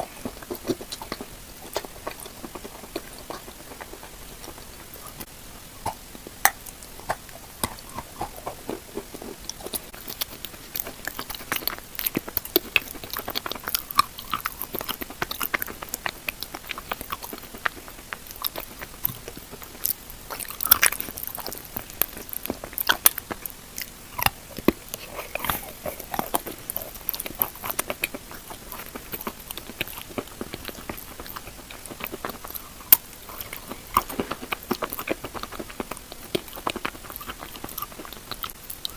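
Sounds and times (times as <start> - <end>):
person chewing crunchy chalk: 0.0 - 38.9.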